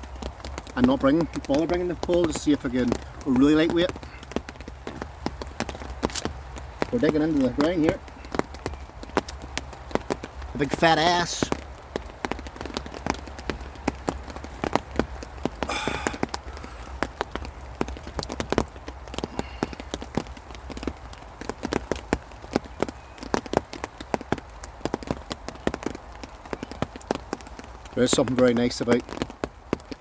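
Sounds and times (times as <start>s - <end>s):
rain pattering on a tarp: 0.0s - 30.0s.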